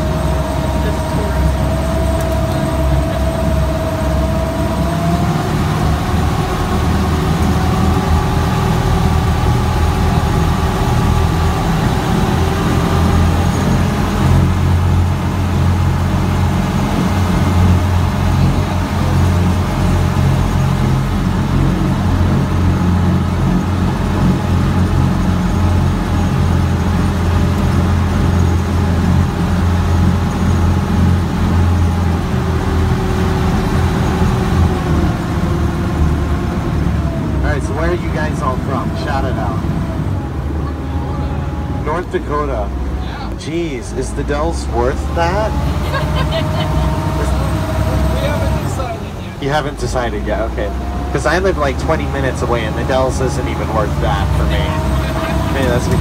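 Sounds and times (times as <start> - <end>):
water rushing from wake: 0.0 - 43.7, 44.3 - 56.0
boat engine droning: 0.0 - 56.0
faint whine: 0.0 - 56.0.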